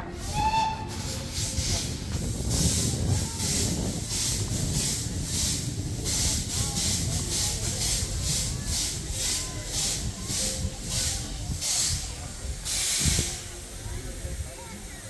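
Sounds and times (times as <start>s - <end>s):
steam engine hissing in pulses: 0.0s - 14.2s.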